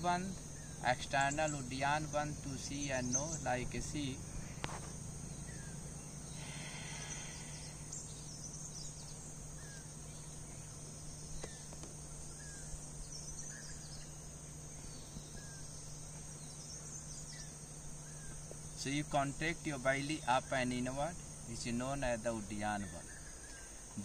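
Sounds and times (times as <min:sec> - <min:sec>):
bird chirping: 0:00.0 - 0:24.0
crickets buzzing: 0:00.0 - 0:24.0.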